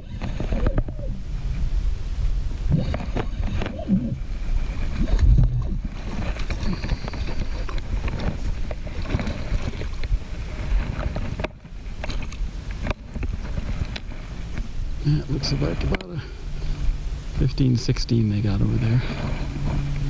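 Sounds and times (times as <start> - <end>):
low rumbling wind: 0.0 - 20.0
water noise: 0.0 - 20.0.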